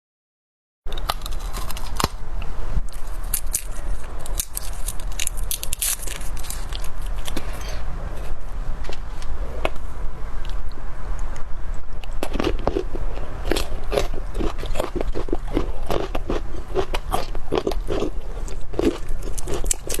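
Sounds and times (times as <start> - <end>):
eating crackles and tearing: 0.9 - 7.6, 10.4 - 20.0
steady low hum: 2.2 - 20.0.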